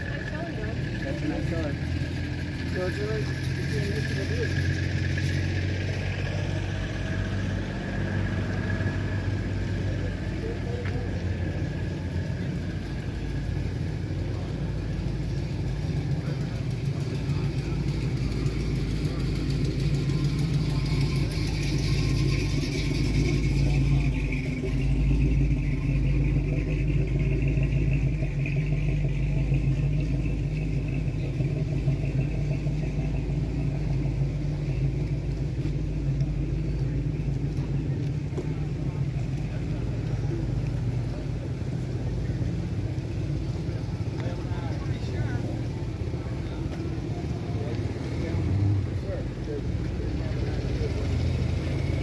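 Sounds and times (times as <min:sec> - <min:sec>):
background voices: 0:00.0 - 0:52.0
car engine running: 0:00.0 - 0:52.0.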